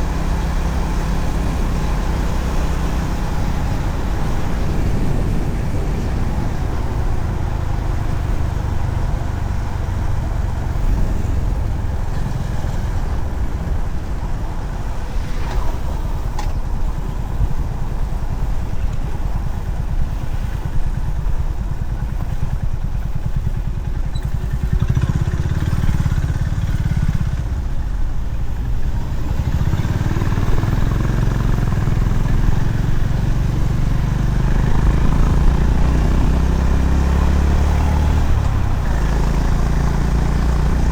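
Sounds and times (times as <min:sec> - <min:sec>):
motorcycle engine throbbing: 0:00.0 - 0:40.9.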